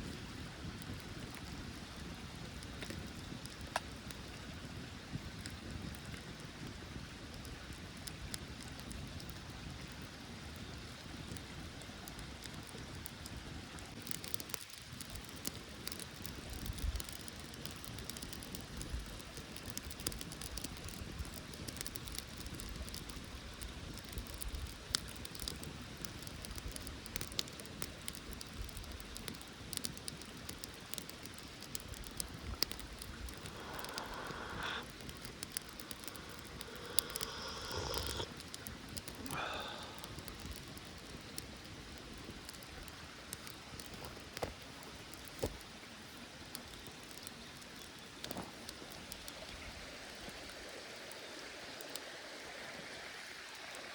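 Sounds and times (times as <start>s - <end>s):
campfire pops and snaps: 0.0s - 49.6s
fire hissing: 0.1s - 50.2s.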